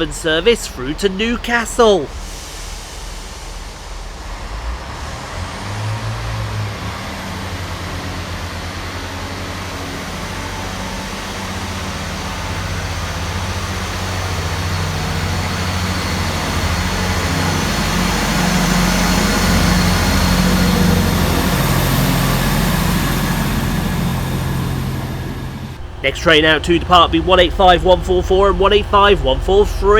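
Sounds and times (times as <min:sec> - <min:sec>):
diesel train engines under power: 0:00.0 - 0:29.9.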